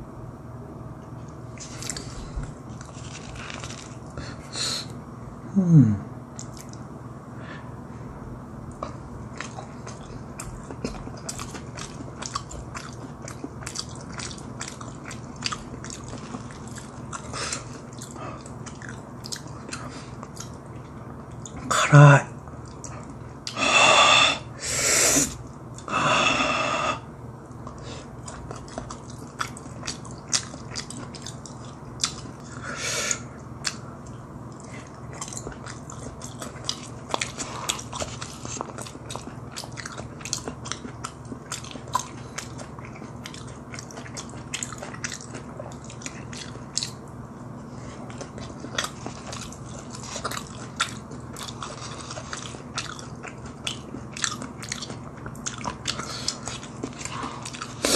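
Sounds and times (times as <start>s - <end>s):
chewing: 1.5s - 4.4s, 6.3s - 6.8s, 8.7s - 21.7s, 22.4s - 23.6s, 27.5s - 57.9s.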